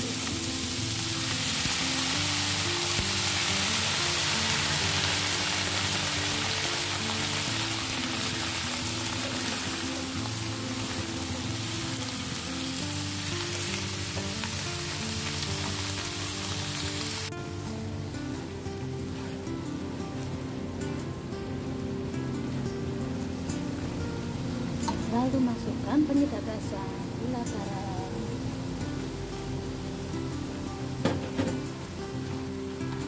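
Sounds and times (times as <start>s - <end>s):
background music: 0.0s - 33.0s
beans sizzling in a wok: 0.0s - 33.0s.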